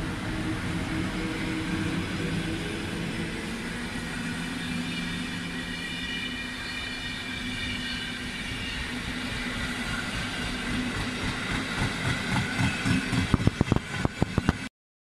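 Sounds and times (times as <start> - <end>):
train coaches rumbling past: 0.0 - 14.7.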